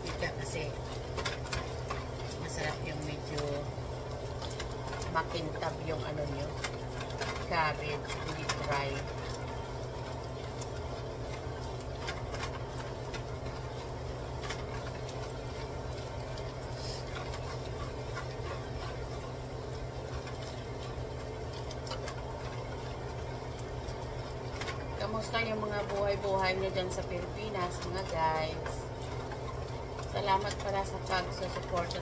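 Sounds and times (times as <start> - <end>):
bacon sizzling in a pot: 0.0 - 32.0
fat crackling and popping: 0.0 - 32.0
steady low hum: 0.0 - 32.0.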